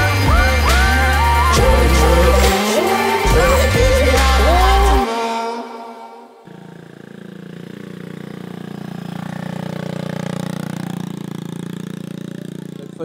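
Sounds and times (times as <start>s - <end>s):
dirt bike engine at low revs: 0.0s - 5.0s, 6.5s - 13.0s.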